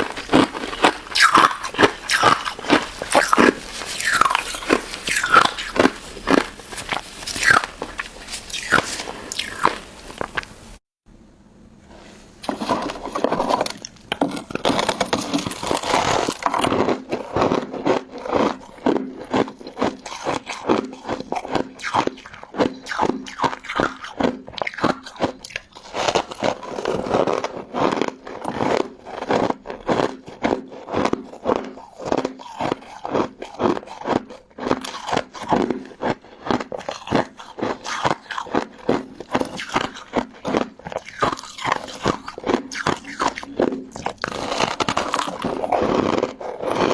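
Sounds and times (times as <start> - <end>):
candy crunching in mouth: 0.0 - 10.6, 12.4 - 46.9.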